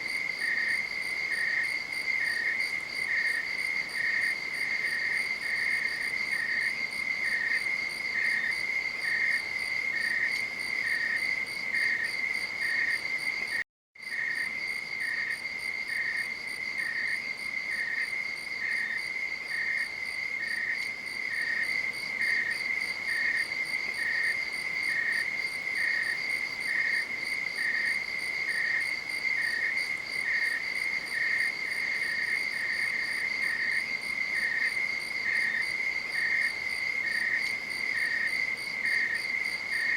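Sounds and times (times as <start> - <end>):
crickets trilling: 0.0 - 39.9
insect chirping steadily: 0.0 - 39.9.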